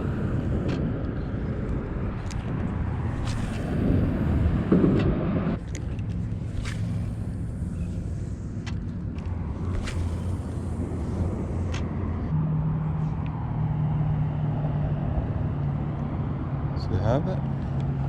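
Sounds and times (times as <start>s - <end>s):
highway traffic rumble: 0.0s - 18.0s
low engine tone: 0.0s - 18.0s.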